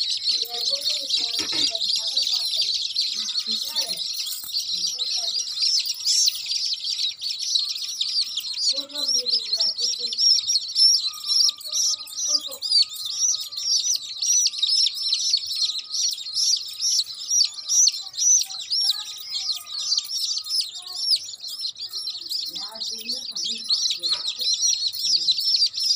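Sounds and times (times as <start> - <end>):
baby chicks peeping: 0.0 - 25.9.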